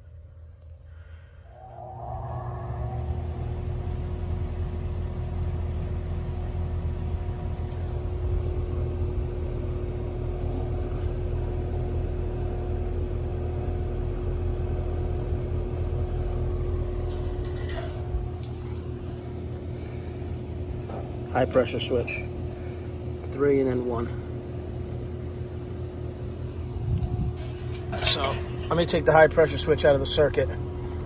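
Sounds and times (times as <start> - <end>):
heat pump humming: 0.0 - 31.0.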